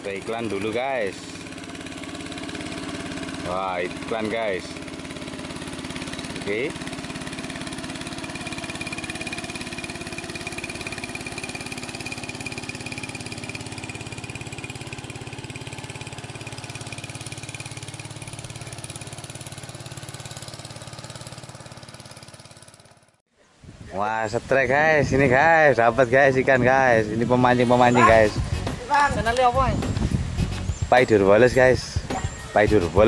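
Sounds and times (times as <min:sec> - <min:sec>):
motorboat engine running: 0:00.0 - 0:23.2, 0:26.6 - 0:33.0.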